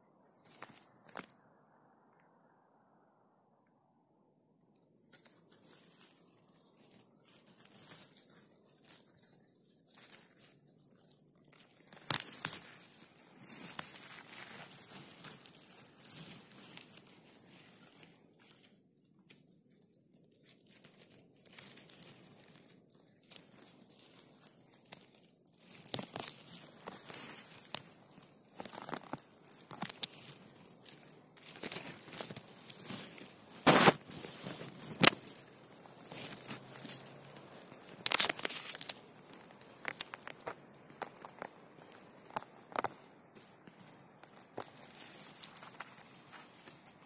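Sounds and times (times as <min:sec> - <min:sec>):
needles and leaf litter crackling: 0:00.4 - 0:01.3, 0:05.0 - 0:47.0.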